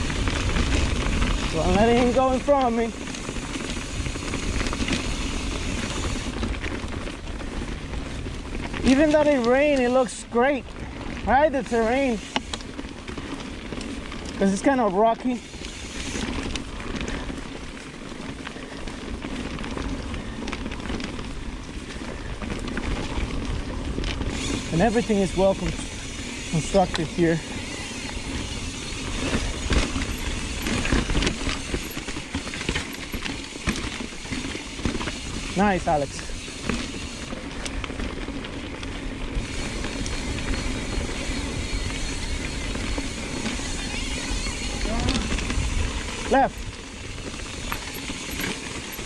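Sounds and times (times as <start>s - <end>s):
bike clicks and rattles: 0.0s - 49.0s
bike tyres crackling over leaves: 0.0s - 49.0s.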